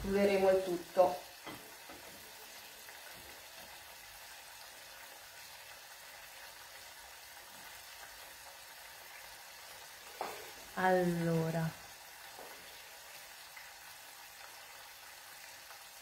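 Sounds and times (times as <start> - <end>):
sauce simmering and sizzling: 0.0 - 16.0.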